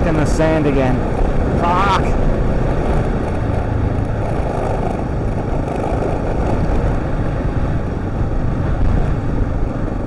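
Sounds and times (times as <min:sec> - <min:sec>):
wind noise: 0:00.0 - 0:10.0.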